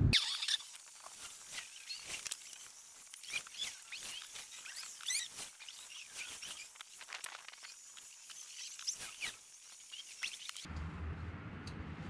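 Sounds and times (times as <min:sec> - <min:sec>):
feathers and skin tearing: 0:00.3 - 0:10.7.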